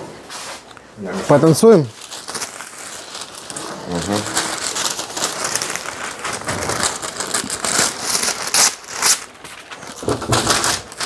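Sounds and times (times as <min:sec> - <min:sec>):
baking paper crinkling: 0:00.5 - 0:11.0.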